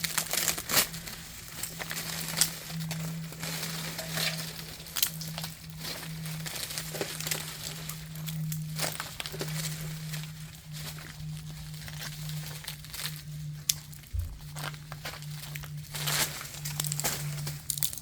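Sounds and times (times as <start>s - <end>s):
ice crackling and ticking: 0.0s - 18.0s
steady low hum: 0.0s - 18.0s.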